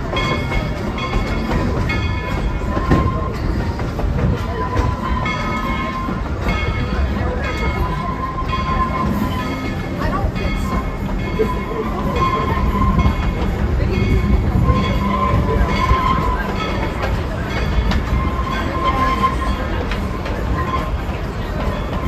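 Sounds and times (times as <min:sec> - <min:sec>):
train wheels rumbling on rails: 0:00.0 - 0:22.0
wheels clacking: 0:00.0 - 0:22.0.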